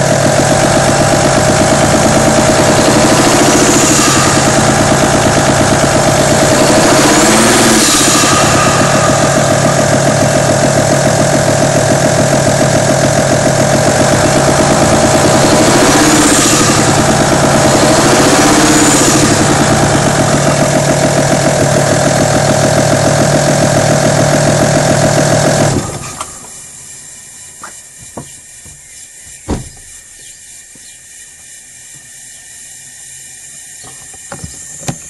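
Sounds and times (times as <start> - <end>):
diesel engine clattering: 0.0 - 32.4, 33.6 - 35.0.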